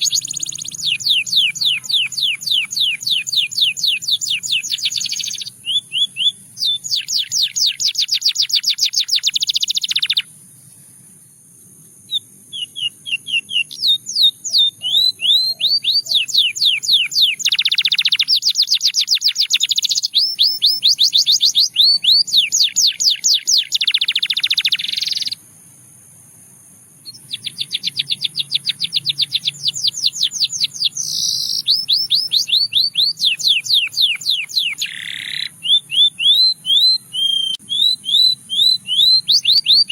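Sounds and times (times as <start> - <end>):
canary singing trills: 0.0 - 11.2, 12.0 - 25.4, 27.0 - 39.9.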